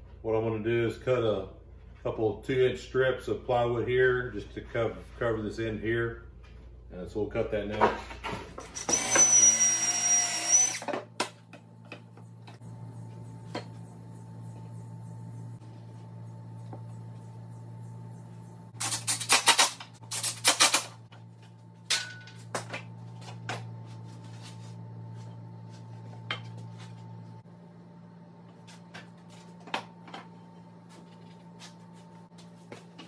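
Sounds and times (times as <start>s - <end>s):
steady low hum: 0.0s - 8.8s, 10.8s - 33.0s.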